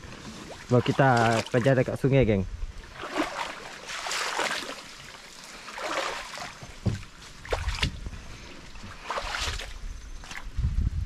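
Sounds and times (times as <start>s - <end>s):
net swishing through water: 0.0s - 1.7s, 2.8s - 10.5s
river water splashing: 0.0s - 2.0s, 2.7s - 10.5s.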